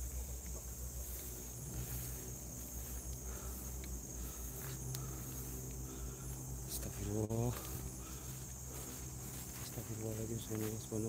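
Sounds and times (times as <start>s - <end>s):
crickets and night insects chirping: 0.0s - 11.0s
footsteps through leafy undergrowth: 0.0s - 11.0s.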